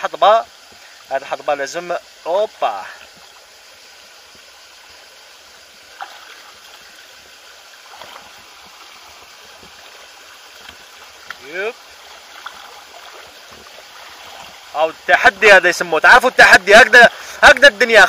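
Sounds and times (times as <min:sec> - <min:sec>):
stream rushing and gurgling: 0:00.0 - 0:18.0.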